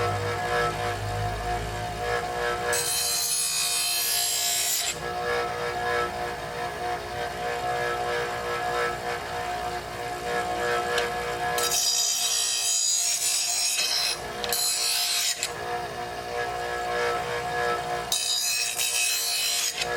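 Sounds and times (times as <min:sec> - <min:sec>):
electric grinder motor whine: 0:00.0 - 0:19.9.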